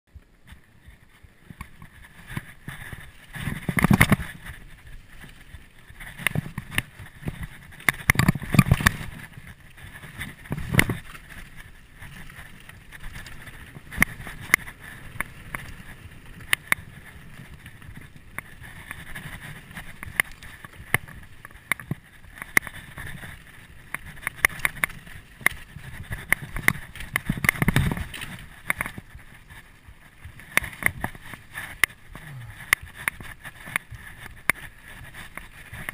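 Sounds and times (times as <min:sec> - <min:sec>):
tyre and trail noise: 0:00.1 - 0:35.9
bike rattling and knocking: 0:00.2 - 0:35.9.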